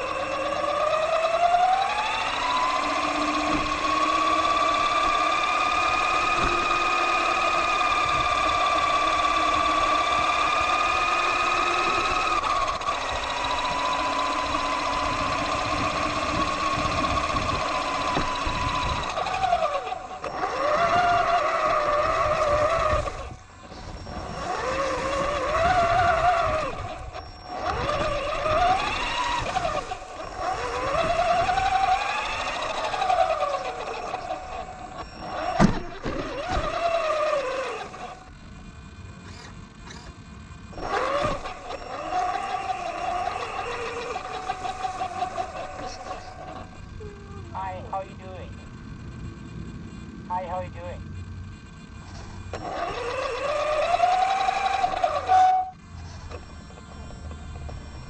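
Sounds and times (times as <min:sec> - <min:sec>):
electric motor and gear whine: 0:00.0 - 0:58.0.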